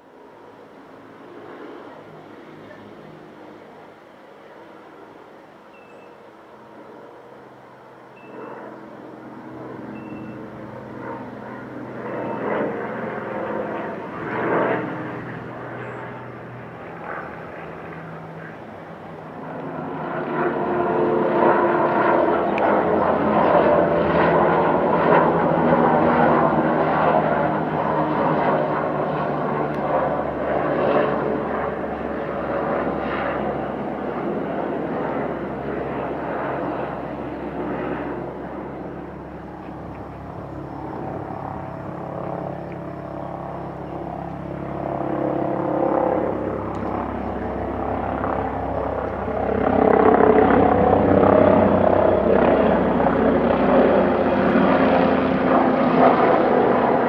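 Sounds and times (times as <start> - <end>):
helicopter passing overhead: 0.0 - 57.0
propeller plane droning: 0.0 - 57.0.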